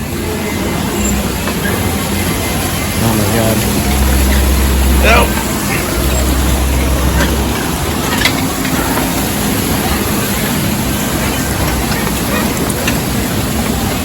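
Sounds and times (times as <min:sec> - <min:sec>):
loud outdoor noise: 0:00.0 - 0:14.0
voices in background: 0:00.0 - 0:14.0.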